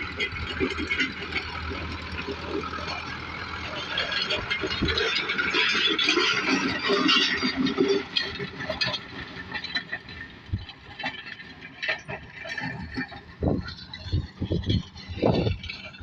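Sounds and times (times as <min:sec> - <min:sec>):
rattles and knocks: 0:00.0 - 0:16.0
tractor engine running: 0:00.0 - 0:16.0.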